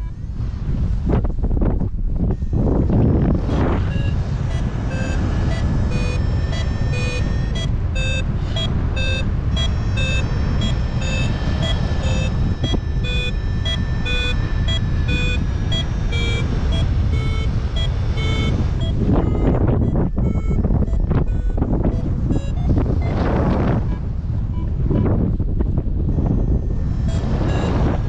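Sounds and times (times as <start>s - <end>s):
variometer beeping: 0.0s - 28.0s
wind rushing over microphone: 0.0s - 28.0s.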